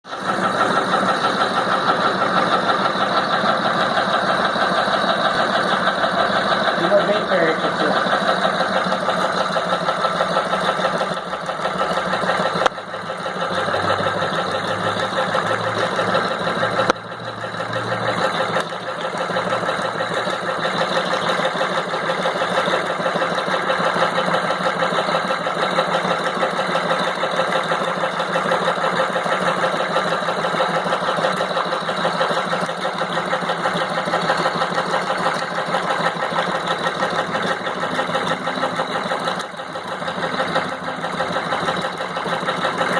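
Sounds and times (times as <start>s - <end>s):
sewing machine stitching: 0.1s - 42.9s.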